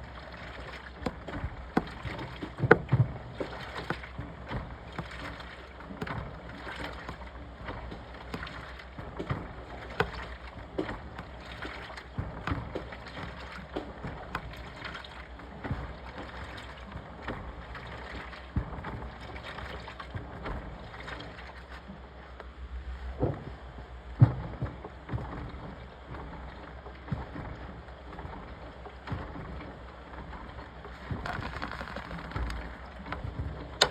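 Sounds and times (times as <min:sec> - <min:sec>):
low motor hum: 0:00.0 - 0:33.9
water sloshing in drum: 0:00.0 - 0:33.9.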